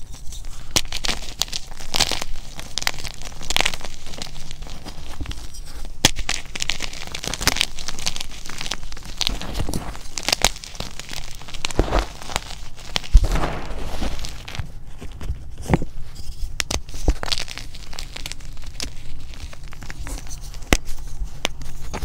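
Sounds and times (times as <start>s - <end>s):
hands crushing chalk: 0.0s - 22.0s.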